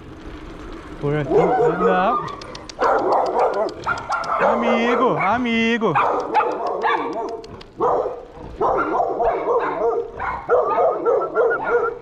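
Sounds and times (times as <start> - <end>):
dog barking: 1.2 - 12.0.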